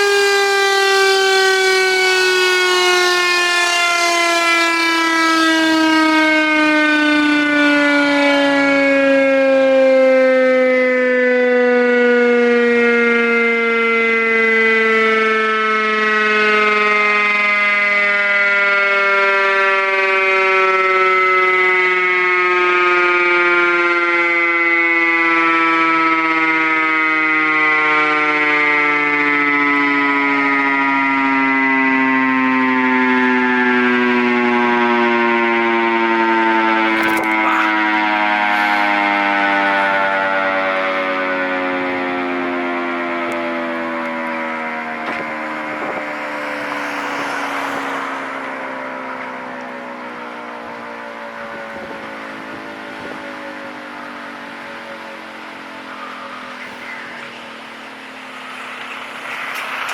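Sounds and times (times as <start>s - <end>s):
electric motor siren: 0.0s - 59.9s.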